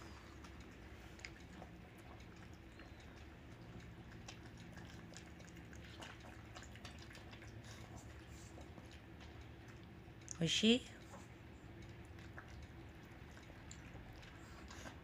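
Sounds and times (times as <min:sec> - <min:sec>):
dog lapping food from bowl: 0:00.0 - 0:15.0.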